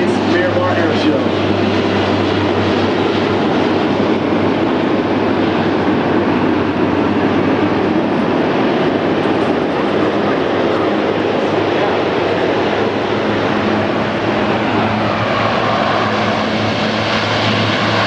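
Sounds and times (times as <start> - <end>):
turboprop aircraft rumble: 0.0 - 18.0.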